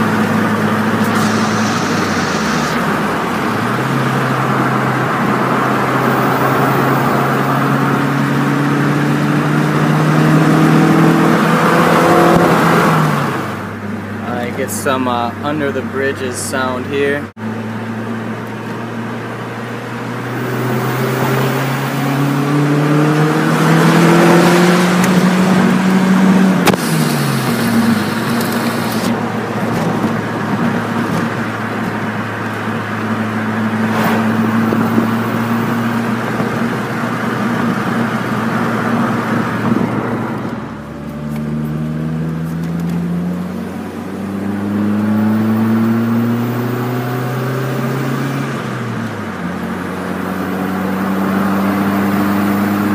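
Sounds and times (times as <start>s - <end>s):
car engine accelerating: 0.0s - 52.9s.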